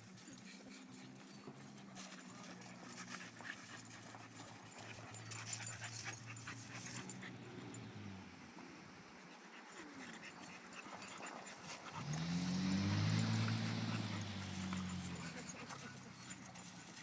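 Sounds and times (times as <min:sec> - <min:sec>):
dogs panting: 0:00.0 - 0:17.0.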